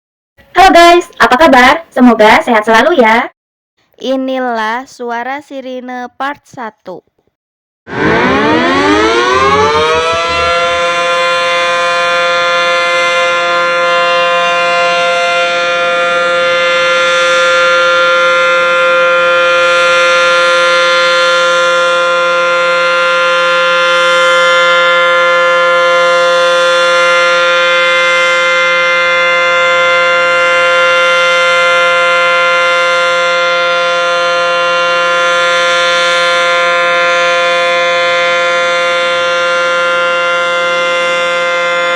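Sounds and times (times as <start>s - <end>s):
warning siren winding up: 7.9s - 41.9s.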